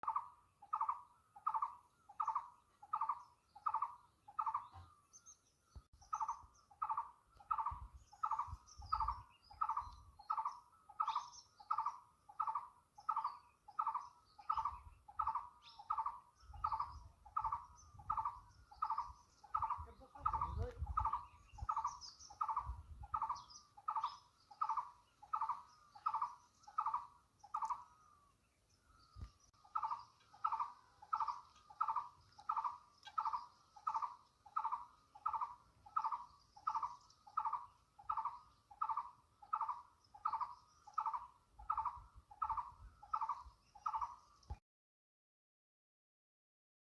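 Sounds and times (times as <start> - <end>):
faint higher bird chirps: 0.0 - 44.6.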